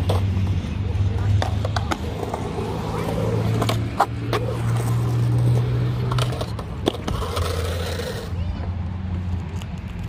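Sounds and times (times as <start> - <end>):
skateboard clacking: 0.0 - 8.4
skateboard wheels rolling on concrete: 0.0 - 10.0.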